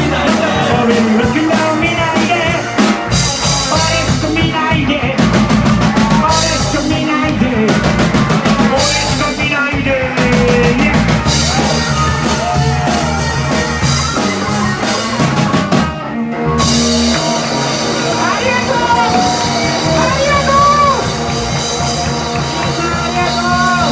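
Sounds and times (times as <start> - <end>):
drum kit with cymbals: 0.0 - 23.9
live rock band playing: 0.0 - 23.9.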